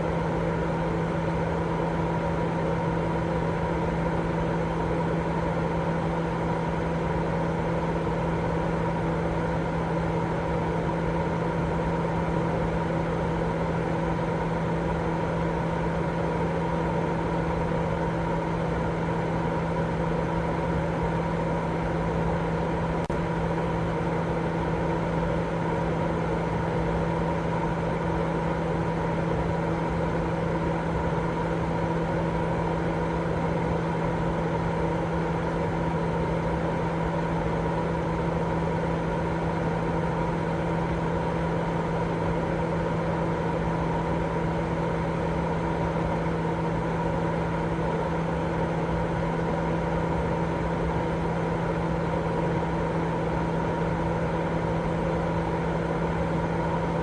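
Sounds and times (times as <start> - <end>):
white noise with low hum: 0.0 - 57.0.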